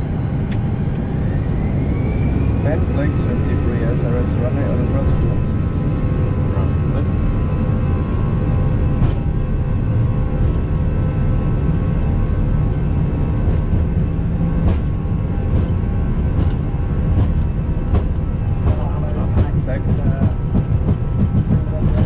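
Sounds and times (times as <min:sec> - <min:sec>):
airliner engine and wheel rumble: 0:00.0 - 0:22.0.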